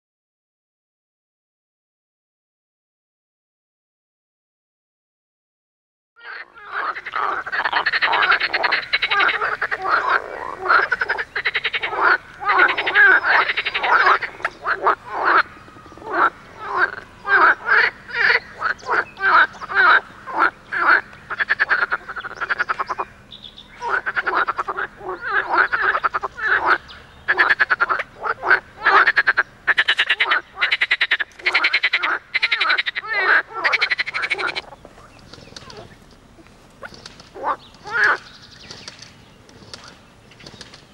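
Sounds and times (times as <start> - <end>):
frogs croaking: 6.2 - 40.8.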